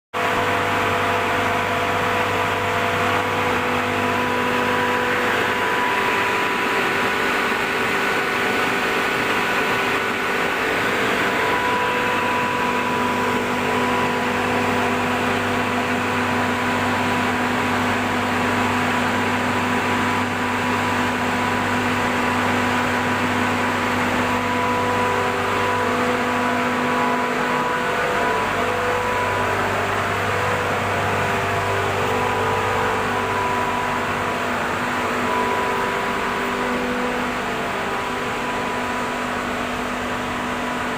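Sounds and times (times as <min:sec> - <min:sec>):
machine hum: 0:00.2 - 0:40.9.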